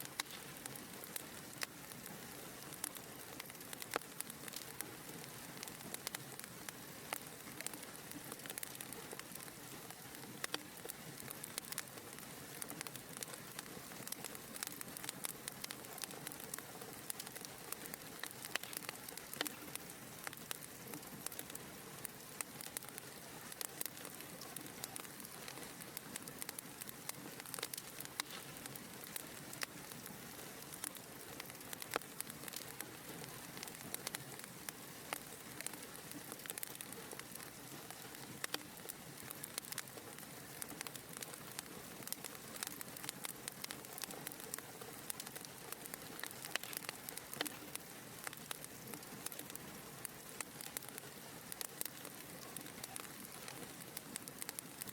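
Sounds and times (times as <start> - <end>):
fire crackling with pops: 0.0 - 54.9.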